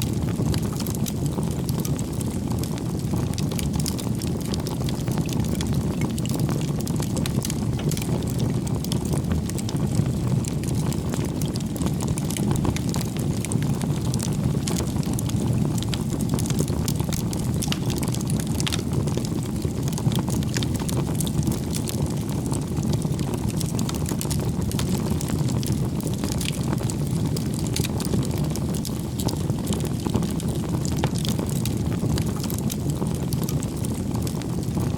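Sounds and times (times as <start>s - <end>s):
fire crackles and pops: 0.0s - 34.9s
rumble of bonfire flames: 0.0s - 34.9s.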